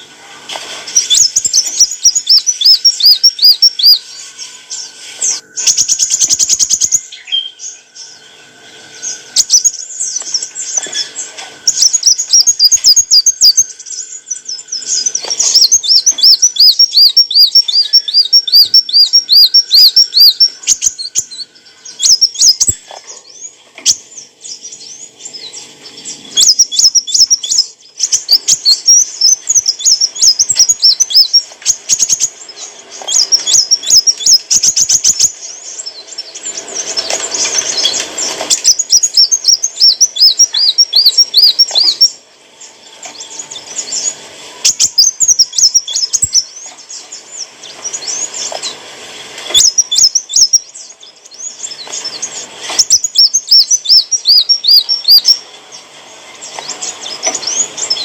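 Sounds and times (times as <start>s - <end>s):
sunbird chirping trills: 0.0s - 58.0s.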